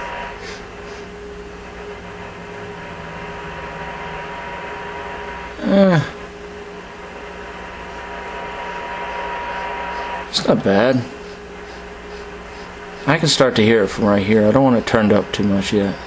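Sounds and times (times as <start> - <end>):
radio static: 0.0 - 6.3, 7.0 - 16.0
faint steady tones: 0.0 - 16.0.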